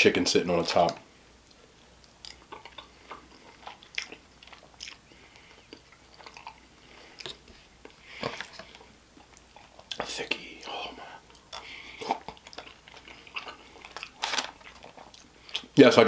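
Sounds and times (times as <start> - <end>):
close chewing: 0.8 - 15.8.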